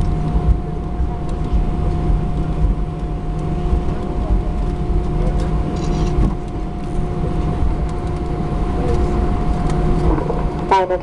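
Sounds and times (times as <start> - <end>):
aircraft wheels rumbling: 0.0 - 11.0
constant cabin hum: 0.0 - 11.0
jet engines idling: 0.0 - 11.0.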